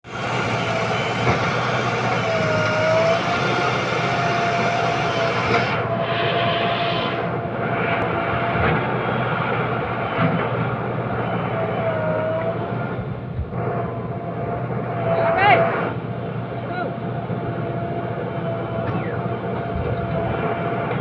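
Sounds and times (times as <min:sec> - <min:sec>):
diesel engine running under load: 0:00.0 - 0:21.0
thin steady whine: 0:00.0 - 0:21.0.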